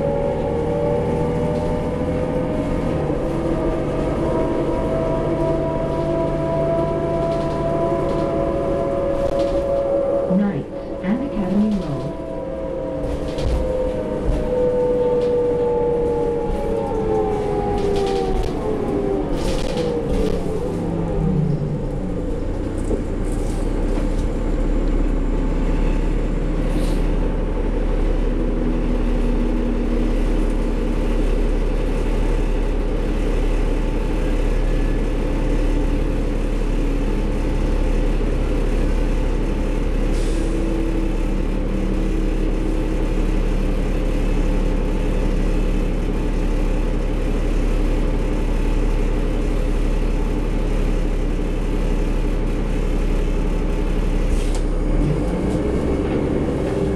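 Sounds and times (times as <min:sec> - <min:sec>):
bus diesel engine running: 0:00.0 - 0:56.9
road noise: 0:00.0 - 0:56.9.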